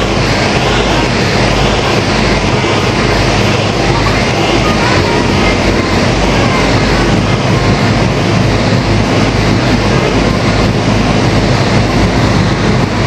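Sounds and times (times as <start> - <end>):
boat engine hum: 0.0 - 13.0
water and wind rushing: 0.0 - 13.0.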